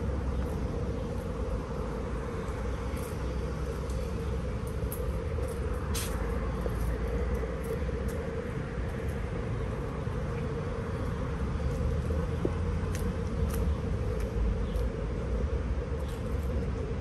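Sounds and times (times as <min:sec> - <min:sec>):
city road traffic rumble: 0:00.0 - 0:17.0.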